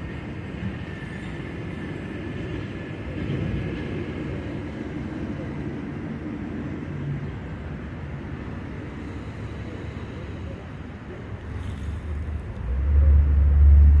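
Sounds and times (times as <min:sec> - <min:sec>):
distant traffic hum: 0:00.0 - 0:14.0.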